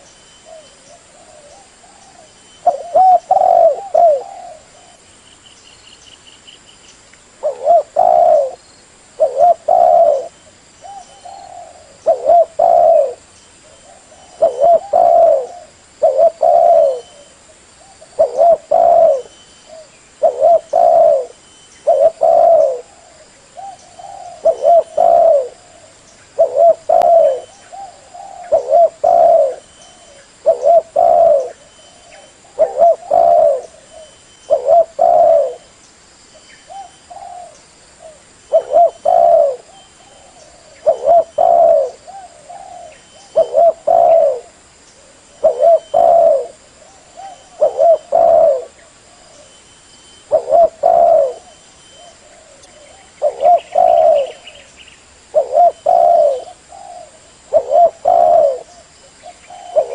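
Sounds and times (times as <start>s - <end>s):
dove cooing: 0.0s - 5.0s, 7.4s - 8.6s, 9.2s - 35.7s, 36.6s - 59.9s.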